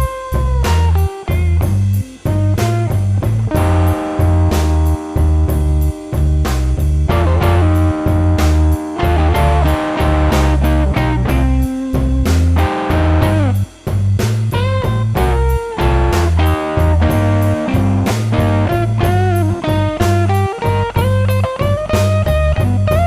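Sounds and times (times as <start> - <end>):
bass and drums: 0.0 - 23.0
blues electric guitar: 0.0 - 23.0.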